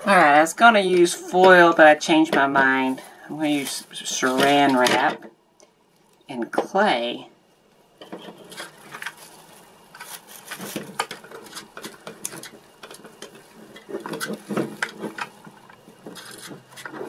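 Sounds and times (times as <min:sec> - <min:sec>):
plastic cling wrap crinkling: 0:00.1 - 0:04.8, 0:08.0 - 0:17.0.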